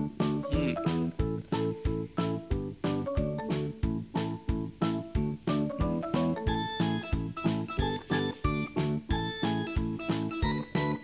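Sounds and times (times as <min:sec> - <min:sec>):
steady beat: 0:00.0 - 0:10.6
bouncing bass: 0:00.0 - 0:11.0.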